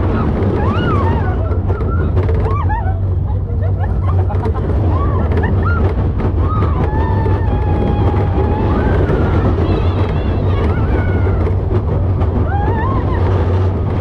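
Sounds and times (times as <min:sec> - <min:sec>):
roller coaster rumbling on track: 0:00.0 - 0:14.0
wind noise on microphone: 0:00.0 - 0:14.0.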